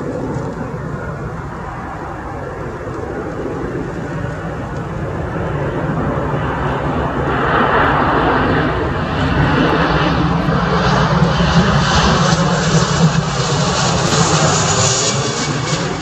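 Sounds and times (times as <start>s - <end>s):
high engine whine: 0.0s - 16.0s
jet engine rumble: 0.0s - 16.0s.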